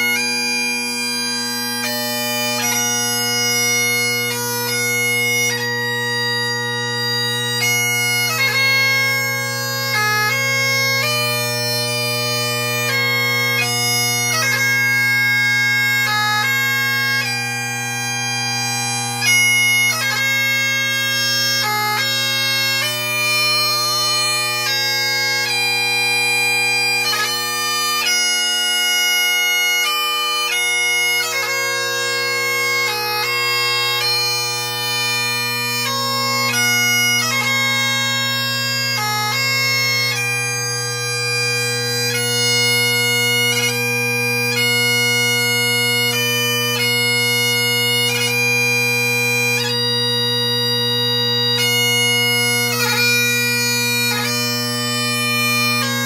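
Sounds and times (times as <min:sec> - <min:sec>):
bagpipe playing slow melody: 0:00.0 - 0:56.0.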